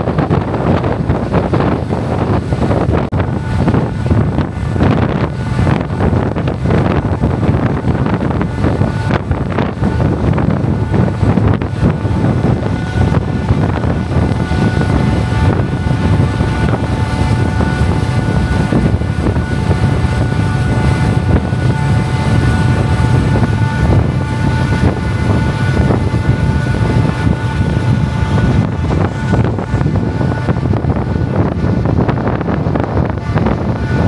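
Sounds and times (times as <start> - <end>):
boat engines droning: 0.0 - 34.0
water rushing along hull: 0.0 - 34.0
wind on microphone: 0.0 - 34.0.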